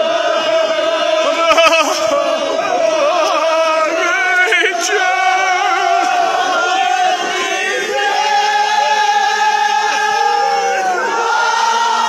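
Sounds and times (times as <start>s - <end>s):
men chanting an elegy: 0.0s - 12.0s.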